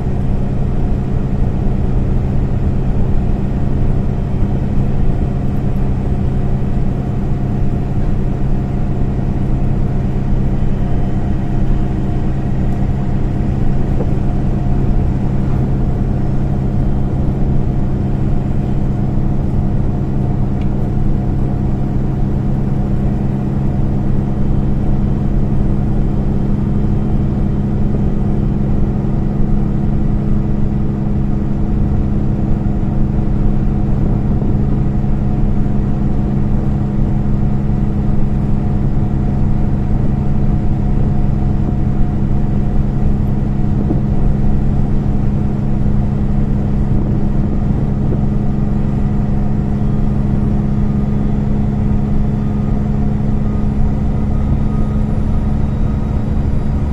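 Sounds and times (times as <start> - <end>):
bus diesel engine humming: 0.0 - 56.9
road and tyre rumble: 0.0 - 56.9.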